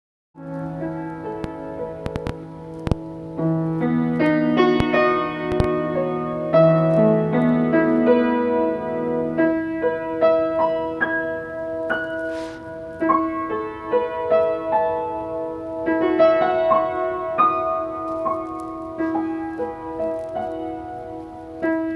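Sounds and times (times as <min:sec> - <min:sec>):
piano music: 0:00.4 - 0:21.9.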